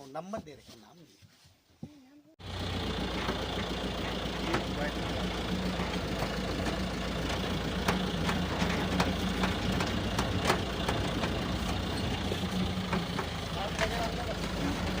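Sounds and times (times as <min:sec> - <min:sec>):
vehicle engine humming: 0:02.4 - 0:15.0.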